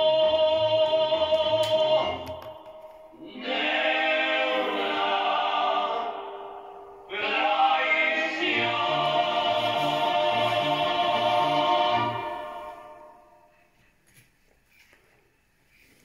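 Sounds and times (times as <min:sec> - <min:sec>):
choir holding chords: 0:00.0 - 0:13.5.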